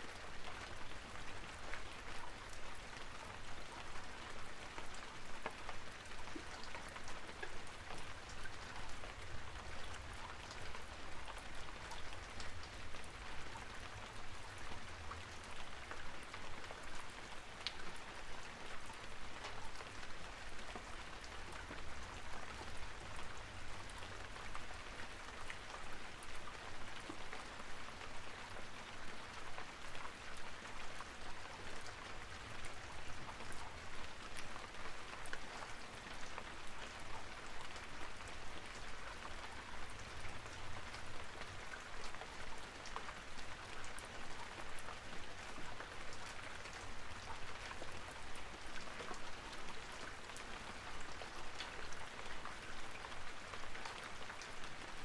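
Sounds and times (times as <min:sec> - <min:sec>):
rain-like patter: 0:00.0 - 0:55.0.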